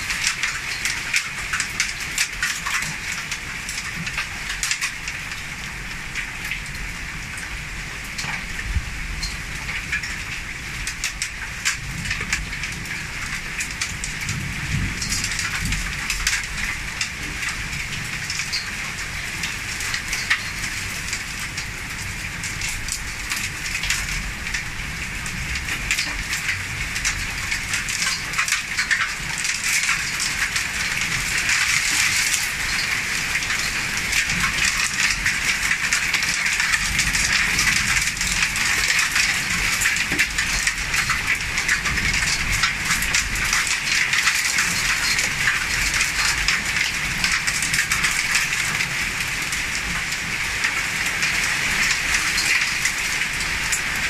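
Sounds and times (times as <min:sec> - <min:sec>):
heavy rain pouring: 0:00.0 - 0:54.0
raindrops tapping hard surfaces: 0:00.0 - 0:54.0.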